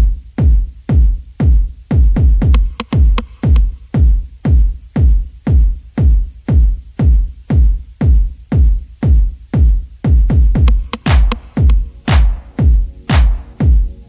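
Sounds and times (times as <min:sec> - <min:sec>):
electronic music with kick drum: 0:00.0 - 0:14.0.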